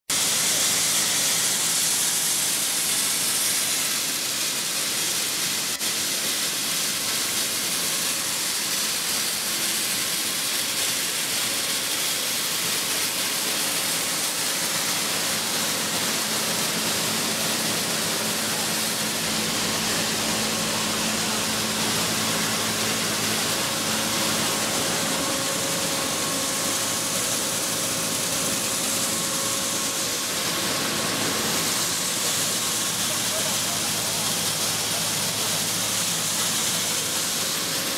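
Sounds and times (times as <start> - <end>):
grain cleaning machine rushing: 0.1 - 37.9.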